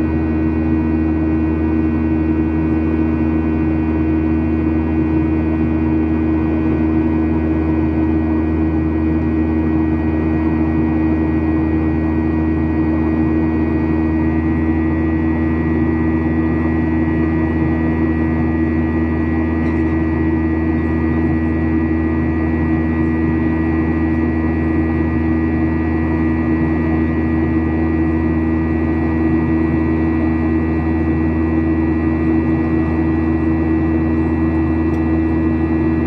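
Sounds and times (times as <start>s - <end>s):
jet engines droning in cabin: 0.0s - 36.0s.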